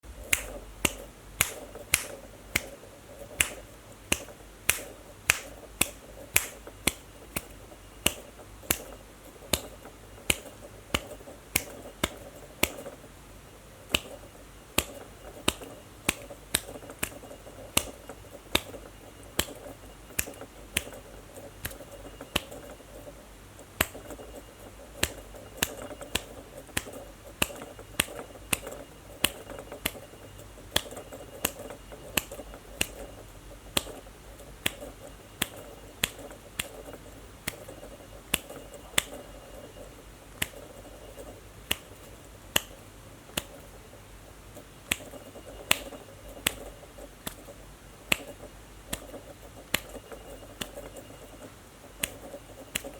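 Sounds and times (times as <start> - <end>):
faint room hum: 0.0 - 52.9
fingers snapping: 0.2 - 13.0, 13.9 - 21.0, 21.6 - 22.7, 23.8 - 24.2, 25.0 - 30.0, 30.7 - 34.0, 34.6 - 39.2, 40.4 - 40.8, 41.7 - 43.7, 44.8 - 47.5, 48.1 - 51.0, 52.0 - 52.9.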